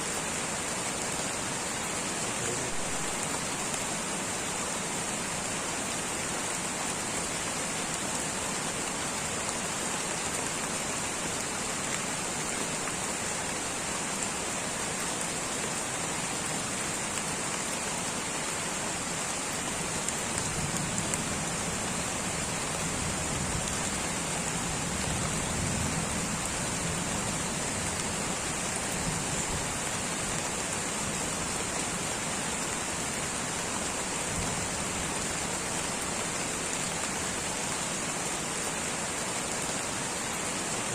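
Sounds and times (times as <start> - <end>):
light rain falling: 0.0 - 40.9.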